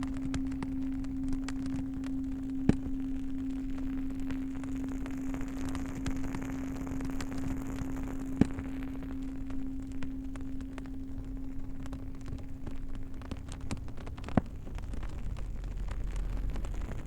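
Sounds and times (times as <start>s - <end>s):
bonfire crackling and popping: 0.0s - 17.0s
low singing bowl hum: 0.0s - 17.0s.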